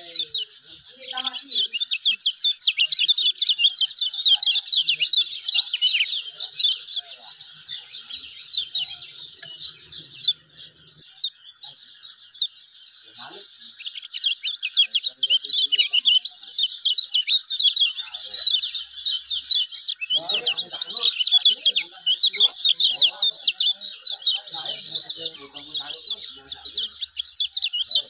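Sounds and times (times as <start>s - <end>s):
small bird twittering: 0.0s - 28.0s.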